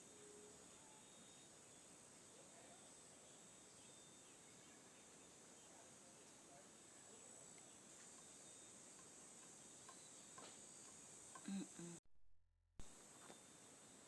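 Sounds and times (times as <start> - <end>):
insects chirring: 0.0 - 12.0
low hiss: 0.0 - 12.0, 12.8 - 14.0.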